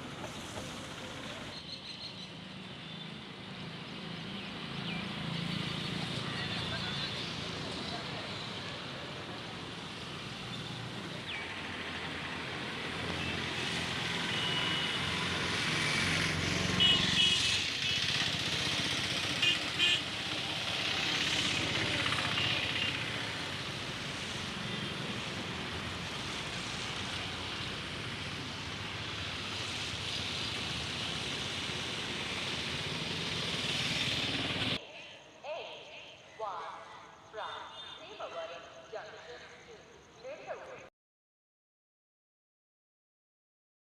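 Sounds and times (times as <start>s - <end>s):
highway traffic noise: 0.0s - 40.9s.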